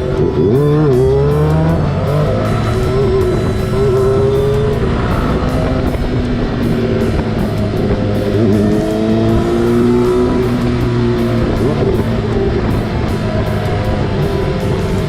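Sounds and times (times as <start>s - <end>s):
background music: 0.0s - 15.0s
motorcycle engine running: 0.0s - 15.0s
wind rush: 0.0s - 15.0s.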